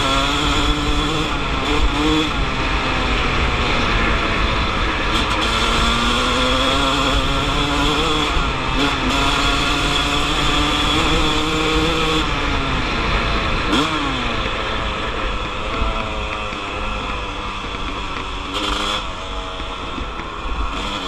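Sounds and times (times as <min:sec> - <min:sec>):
two-stroke dirt bike engine: 0:00.0 - 0:21.0.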